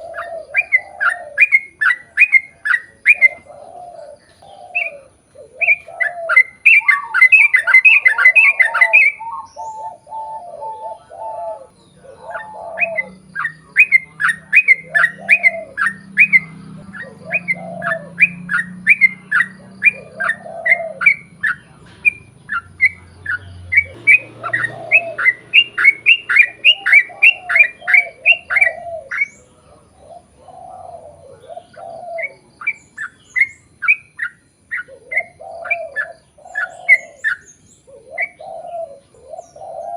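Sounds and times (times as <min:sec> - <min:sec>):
bird singing whistled notes: 0:00.0 - 0:29.6, 0:30.2 - 0:39.9
dove-like coos: 0:00.0 - 0:39.9.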